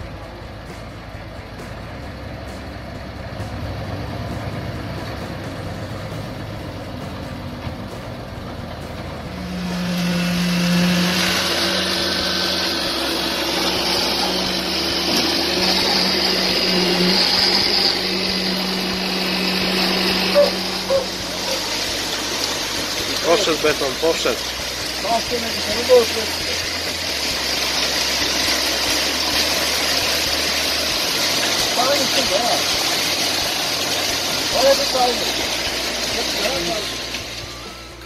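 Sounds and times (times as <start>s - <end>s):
diesel engine running: 0.0s - 38.0s
steady machine hum with hiss: 0.0s - 38.0s.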